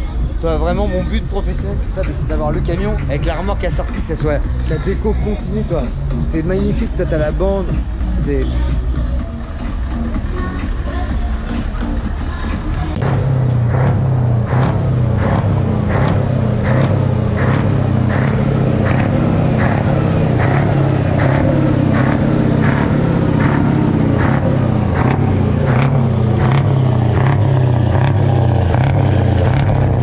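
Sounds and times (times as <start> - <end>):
truck diesel engine idling: 0.0 - 30.0.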